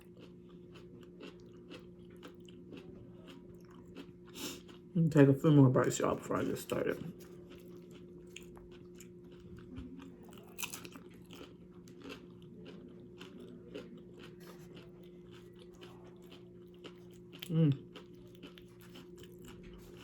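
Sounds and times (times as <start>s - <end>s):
person chewing food: 0.0s - 4.9s, 6.0s - 20.0s.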